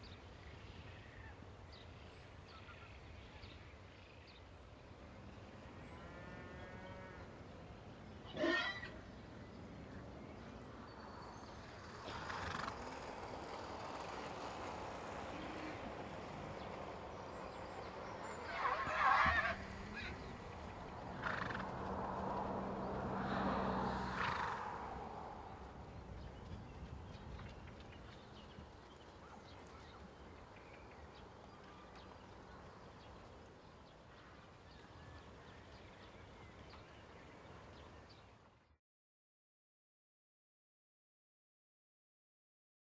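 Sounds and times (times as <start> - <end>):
horses moving and grazing rustle: 0.0 - 38.4.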